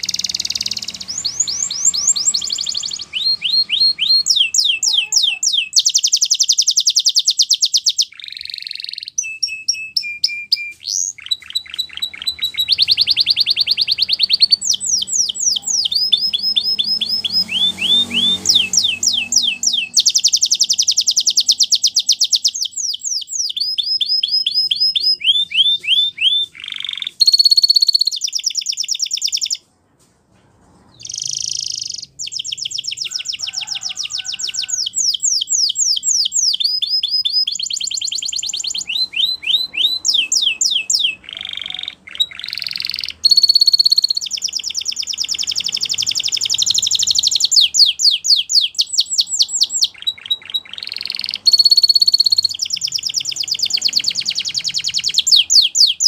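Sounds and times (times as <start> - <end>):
canary singing trills: 0.0 - 29.6, 31.0 - 56.0.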